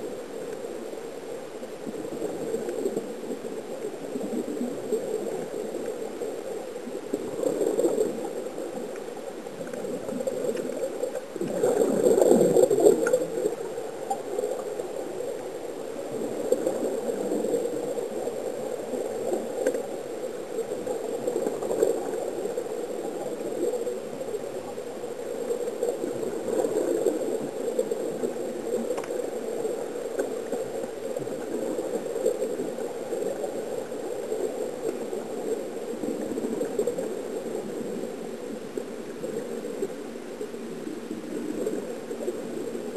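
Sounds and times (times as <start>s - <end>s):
underwater bubbling and gurgling: 0.0s - 42.9s.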